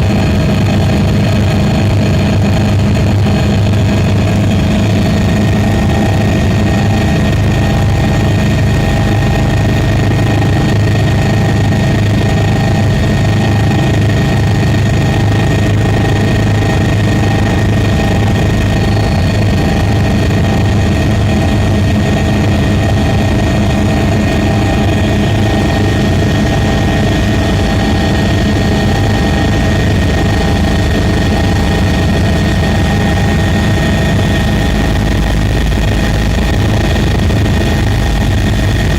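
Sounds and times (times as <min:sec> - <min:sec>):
aircraft propellers low hum: 0:00.0 - 0:38.9
steady whining tones: 0:00.0 - 0:38.9.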